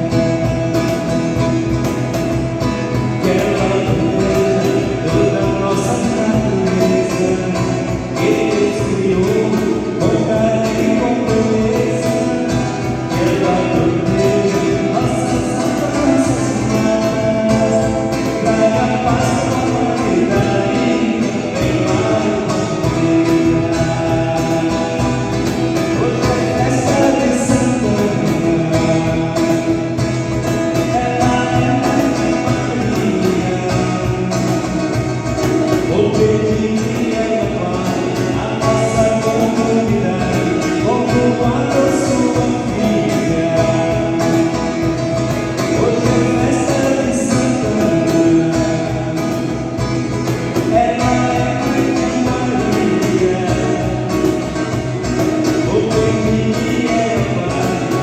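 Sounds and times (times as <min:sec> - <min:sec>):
band accompaniment with steady beat: 0:00.0 - 0:58.0
voices singing a hymn: 0:02.3 - 0:58.0.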